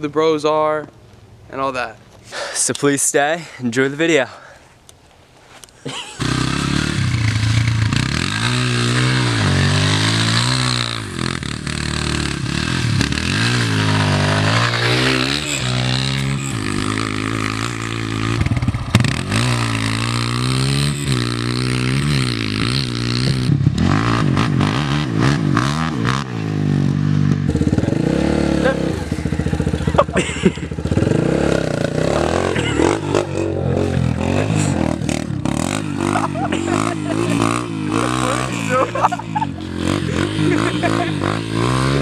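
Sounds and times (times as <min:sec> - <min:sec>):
dirt bike engine revving: 0:05.9 - 0:42.0.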